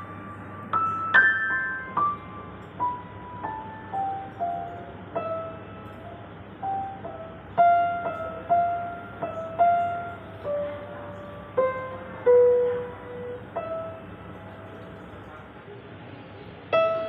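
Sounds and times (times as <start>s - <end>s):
slow piano melody: 0.0s - 15.7s, 16.6s - 17.0s.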